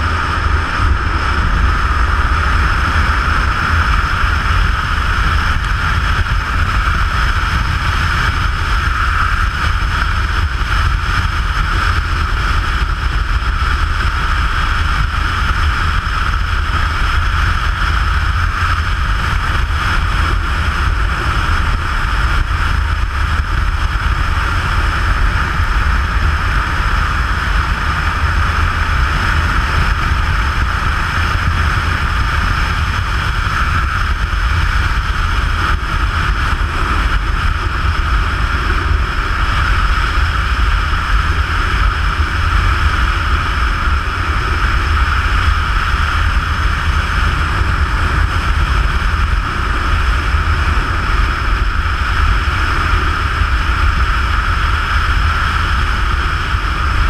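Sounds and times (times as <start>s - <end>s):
road noise: 0.0s - 57.0s
wind rushing: 0.0s - 57.0s.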